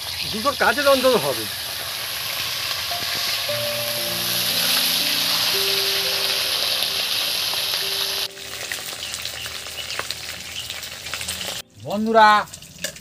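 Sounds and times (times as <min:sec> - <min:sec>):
fish sizzling in hot oil: 0:00.0 - 0:11.6, 0:12.3 - 0:13.0.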